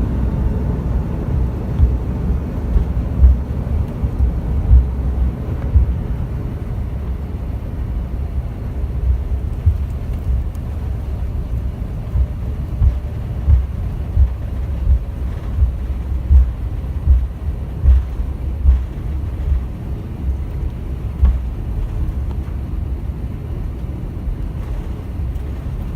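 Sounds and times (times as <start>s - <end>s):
low thumps and bumps: 0.0s - 7.2s, 8.3s - 22.5s
low rumble inside aircraft cabin: 0.0s - 25.9s.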